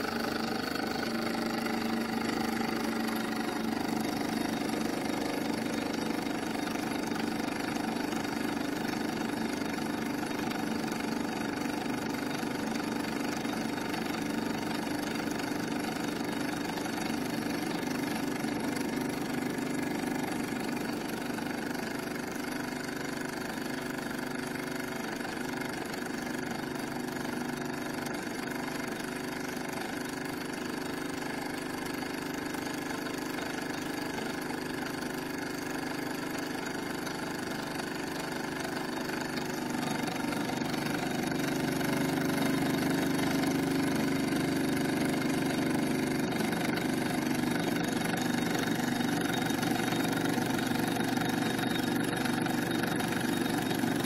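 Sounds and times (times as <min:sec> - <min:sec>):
model steam engine exhaust beats: 0:00.0 - 0:54.0.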